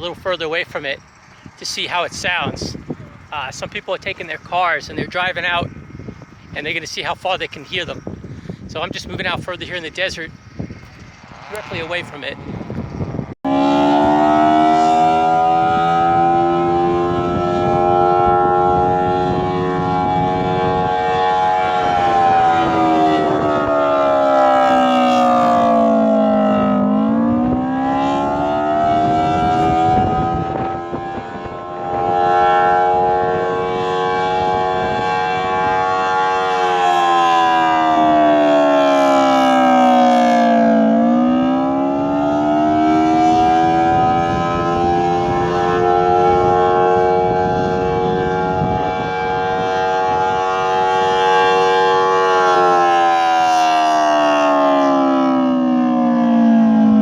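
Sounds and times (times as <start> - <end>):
air raid siren wailing: 0.0 - 57.0.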